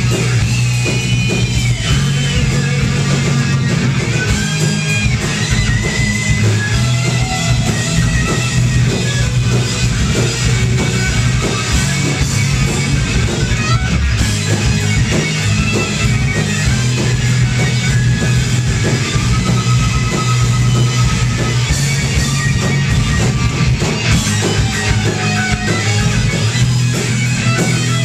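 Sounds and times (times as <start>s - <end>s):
live rock band playing: 0.0s - 28.0s
steady drumbeat: 0.0s - 28.0s.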